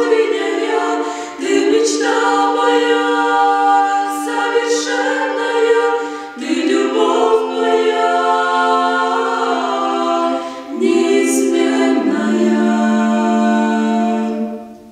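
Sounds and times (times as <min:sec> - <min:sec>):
vocal quartet singing a cappella: 0:00.0 - 0:14.9.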